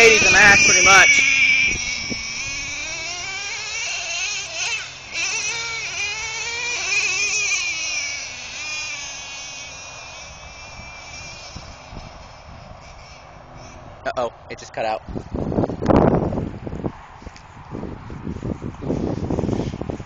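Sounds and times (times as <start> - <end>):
small engine whining while throttled: 0.0 - 16.2.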